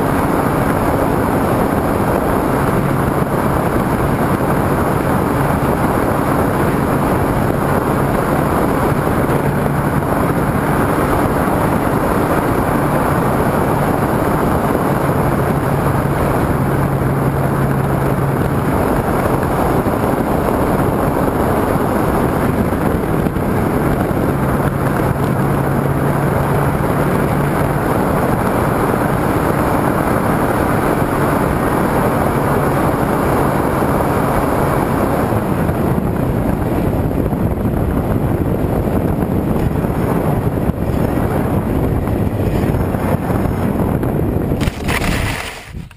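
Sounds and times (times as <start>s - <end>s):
airflow buffeting camera: 0.0s - 45.9s
propeller motor humming: 0.0s - 45.9s.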